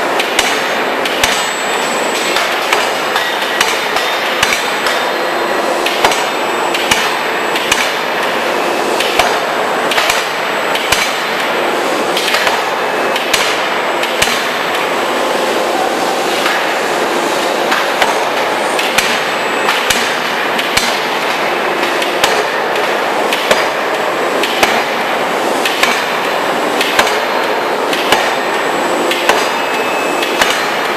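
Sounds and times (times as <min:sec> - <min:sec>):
loud machine noise: 0:00.0 - 0:30.9.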